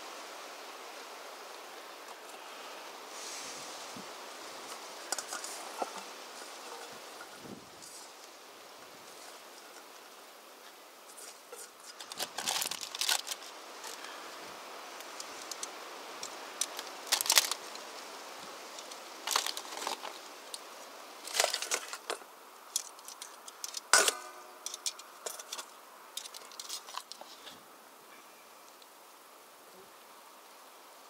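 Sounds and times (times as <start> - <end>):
salad leaves rustling: 1.5 - 27.6.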